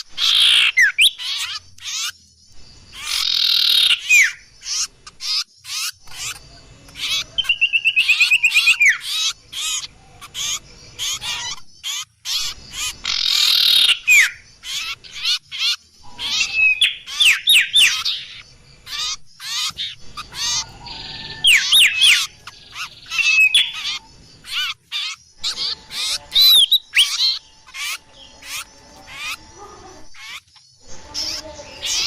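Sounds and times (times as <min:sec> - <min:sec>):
songbirds chirping and whistling: 0:00.0 - 0:32.0.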